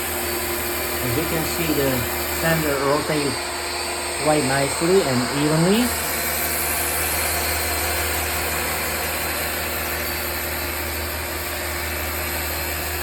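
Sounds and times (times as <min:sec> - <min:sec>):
electric sander on wood: 0:00.0 - 0:13.0.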